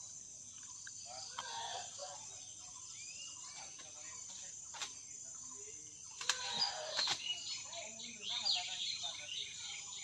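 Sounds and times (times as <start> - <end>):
insects shrilling: 0.0 - 10.0.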